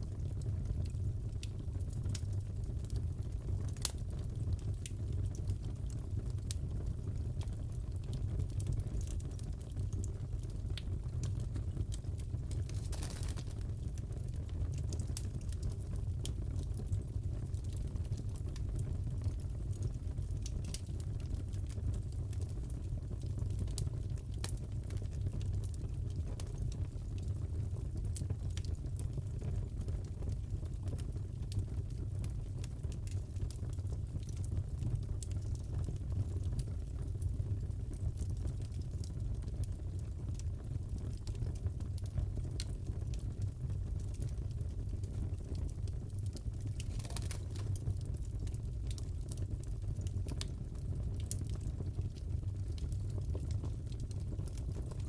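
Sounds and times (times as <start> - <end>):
fireplace crackling: 0.0 - 6.8, 7.4 - 23.8, 30.4 - 55.0
fire popping: 0.1 - 22.5, 30.9 - 55.0.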